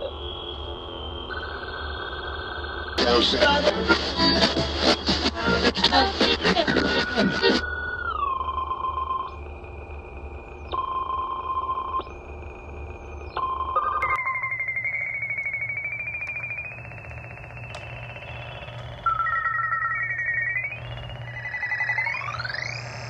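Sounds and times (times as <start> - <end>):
electronic beeps: 0.0 - 23.0
low hum: 0.0 - 23.0
pulsing tone rising in pitch: 0.0 - 23.0.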